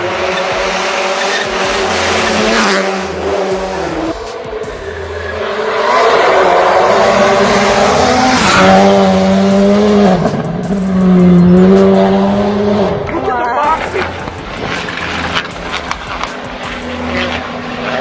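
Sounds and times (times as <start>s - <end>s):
racing car engine revving: 0.0s - 18.0s.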